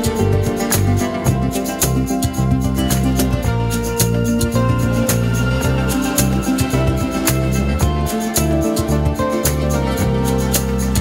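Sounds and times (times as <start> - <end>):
plucked guitar music with beat: 0.0 - 11.0.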